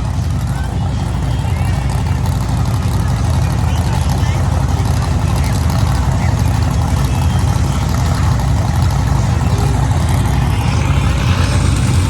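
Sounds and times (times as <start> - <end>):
engine running loudly: 0.0 - 12.0.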